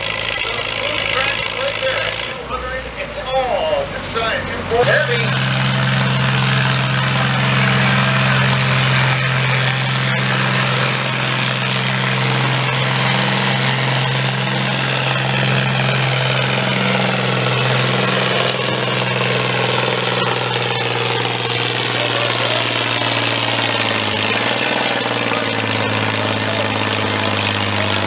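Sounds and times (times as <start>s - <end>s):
tractor engine under full load: 0.0s - 28.0s.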